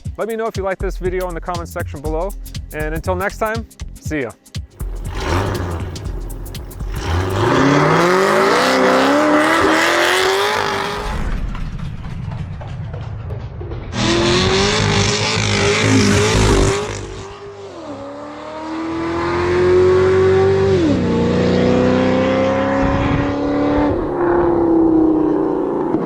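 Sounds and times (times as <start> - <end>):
car engine accelerating hard: 4.8 - 26.0.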